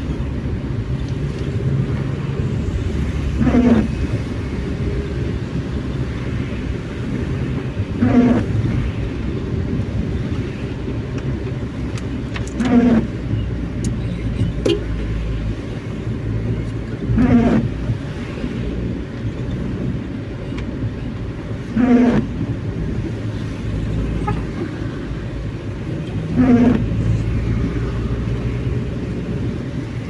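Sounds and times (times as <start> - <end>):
engine and road rumble: 0.0 - 30.0
windshield wipers squeaking: 0.0 - 30.0.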